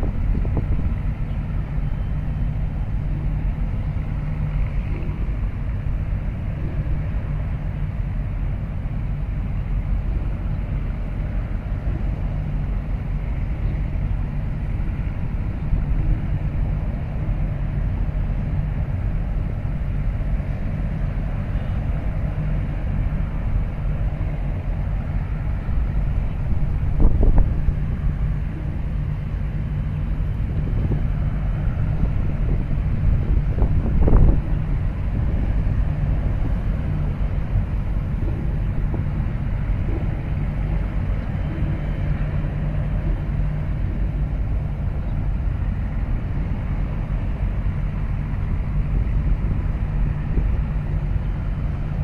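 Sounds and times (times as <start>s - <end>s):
low rumble of container port: 0.0s - 52.0s.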